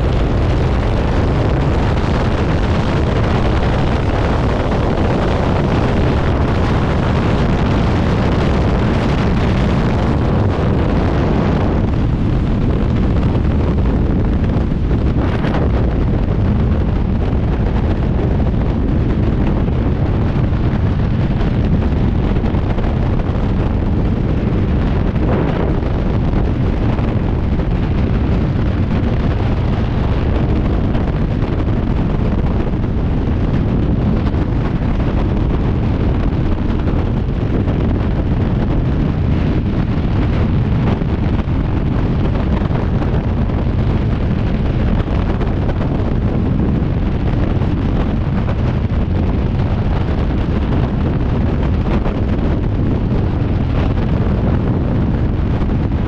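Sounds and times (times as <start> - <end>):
freefall wind buffeting microphone: 0.0 - 56.0.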